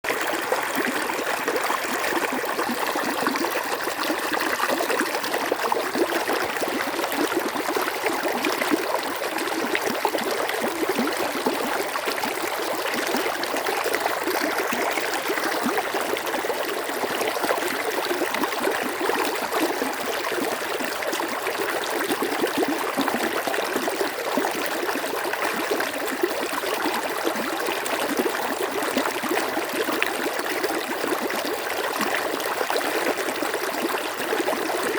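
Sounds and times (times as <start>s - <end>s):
stream water flowing over stones: 0.1s - 34.9s.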